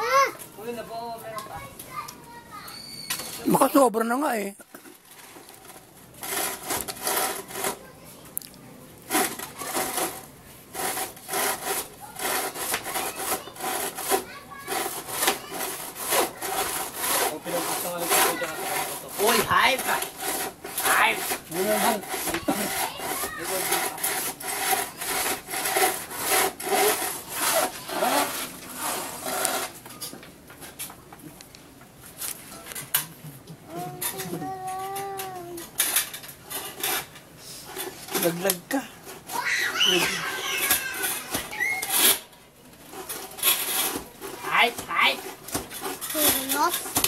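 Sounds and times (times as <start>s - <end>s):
hand tool scraping: 2.6s - 8.0s, 9.1s - 30.9s, 32.0s - 47.0s.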